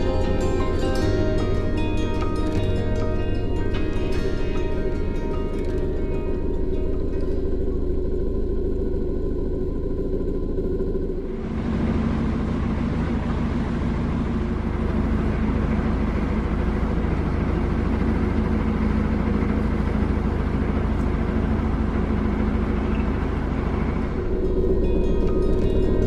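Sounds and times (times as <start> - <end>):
boat diesel engine running: 0.0 - 26.0.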